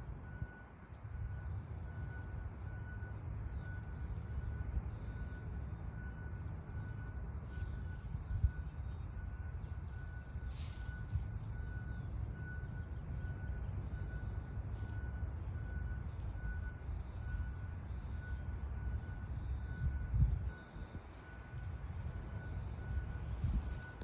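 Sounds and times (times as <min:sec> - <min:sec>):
reverse backup alarm beeping: 0:00.0 - 0:24.0
bird calls: 0:03.5 - 0:23.4.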